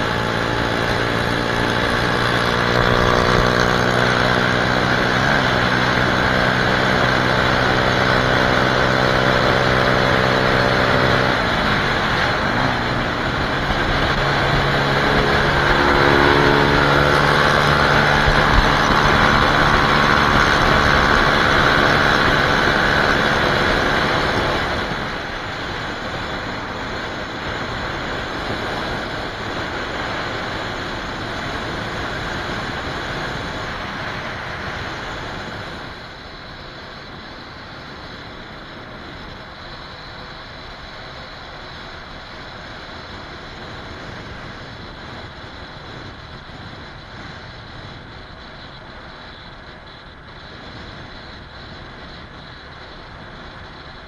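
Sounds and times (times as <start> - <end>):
motorcycle engine running: 0.0 - 54.0
road noise: 0.0 - 54.0
wind rush: 0.0 - 54.0.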